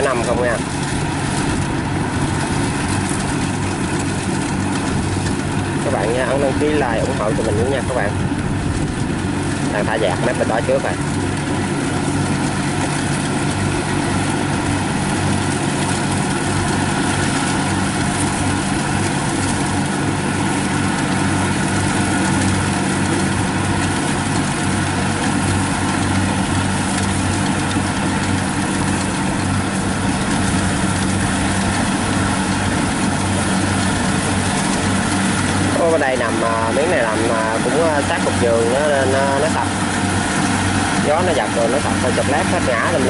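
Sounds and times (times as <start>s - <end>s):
combine harvester diesel engine: 0.0s - 43.0s.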